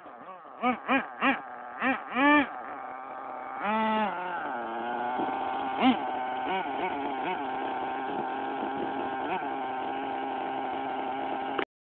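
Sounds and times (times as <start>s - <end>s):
engine throttle blips: 0.0s - 11.7s
small nitro engine running: 0.0s - 11.7s.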